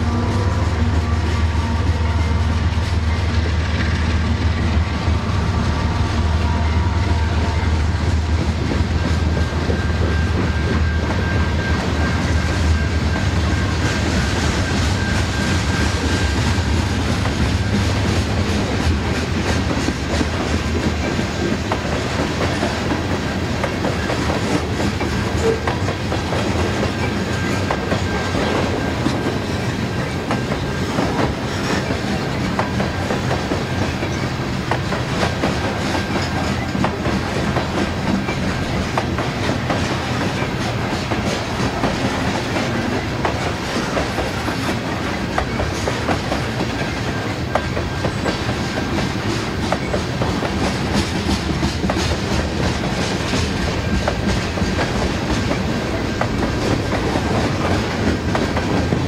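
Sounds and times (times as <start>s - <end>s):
freight train rumble: 0.0s - 59.0s.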